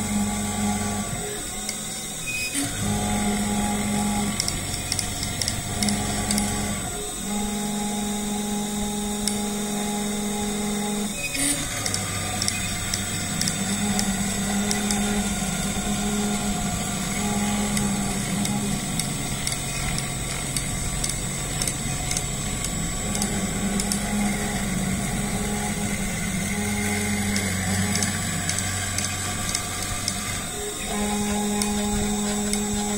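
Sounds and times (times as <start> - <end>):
high spindle whine: 0.0 - 32.9
low motor tones: 0.0 - 32.9.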